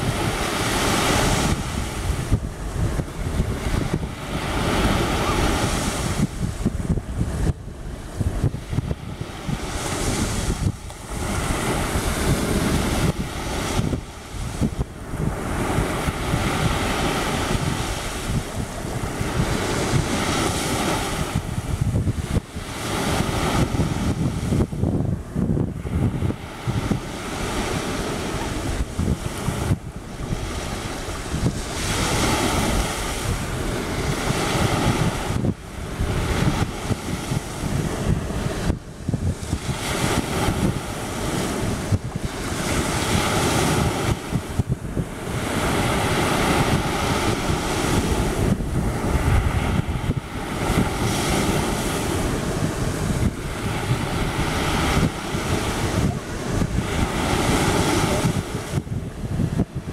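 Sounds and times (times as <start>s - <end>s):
small waves breaking on sand: 0.0s - 59.9s
wind buffeting microphone: 0.0s - 59.9s.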